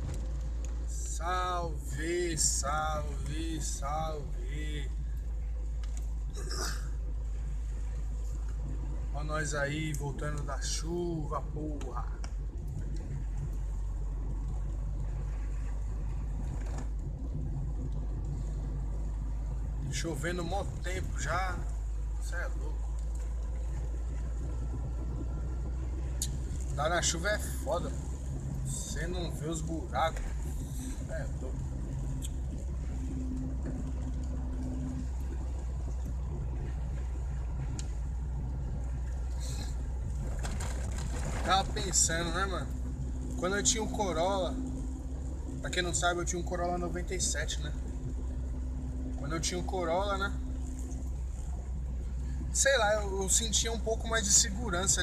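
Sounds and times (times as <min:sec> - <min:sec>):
car engine and tyre drone: 0:00.0 - 0:55.0
steady hum: 0:00.0 - 0:55.0.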